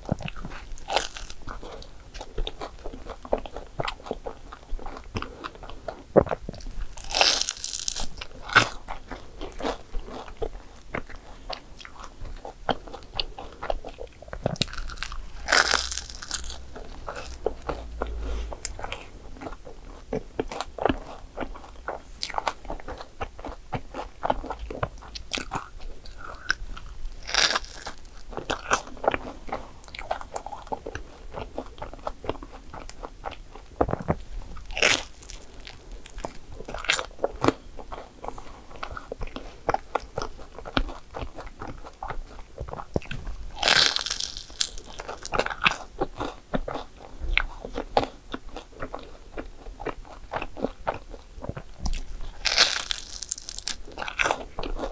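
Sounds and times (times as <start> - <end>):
crunchy pastry chewing: 0.0 - 54.9.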